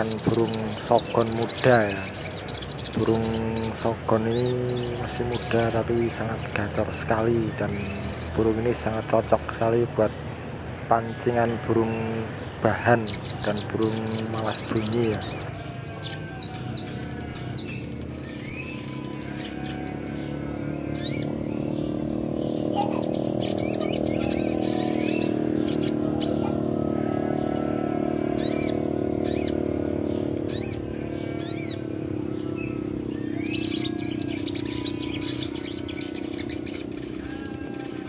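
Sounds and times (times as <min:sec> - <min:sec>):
bird chirping: 0:00.0 - 0:26.7, 0:27.5 - 0:38.0.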